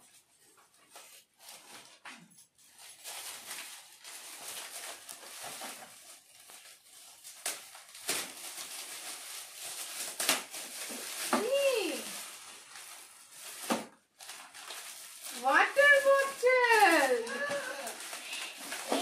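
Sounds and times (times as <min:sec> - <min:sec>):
foil gift wrap crinkling: 0:00.0 - 0:19.0
loud paper crackles: 0:00.2 - 0:19.0.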